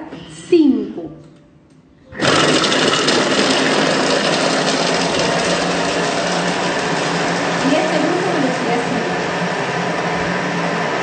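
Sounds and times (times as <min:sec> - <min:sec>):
kitchen machine motor whirring: 0:02.1 - 0:11.0.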